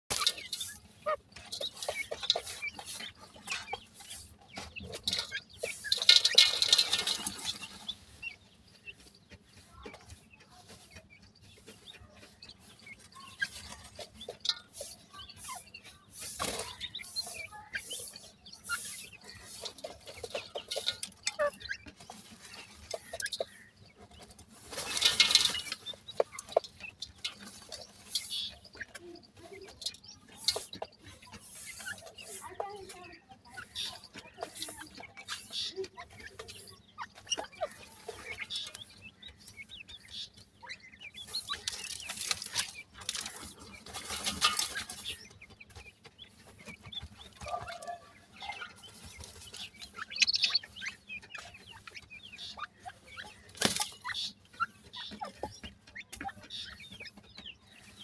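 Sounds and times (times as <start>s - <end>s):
ticks and rustles of dirt: 0.0s - 58.0s.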